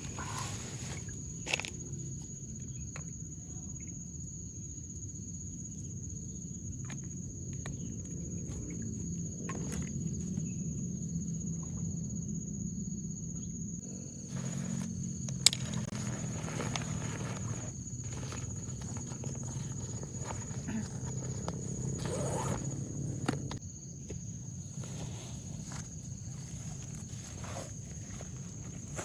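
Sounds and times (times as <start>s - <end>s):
insect droning: 0.0s - 29.0s.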